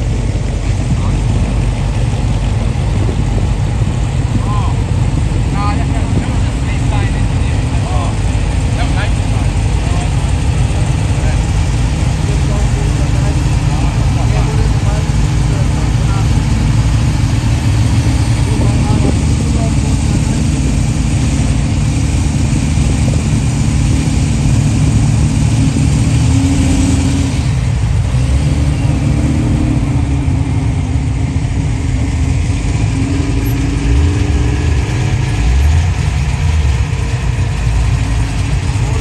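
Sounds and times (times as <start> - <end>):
car engines idling and revving: 0.0 - 39.0
vee-eight engine: 0.0 - 39.0.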